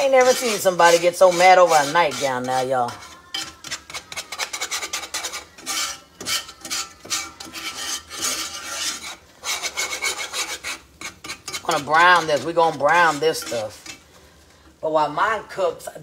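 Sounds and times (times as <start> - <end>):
whisk scraping skillet: 0.0 - 14.8.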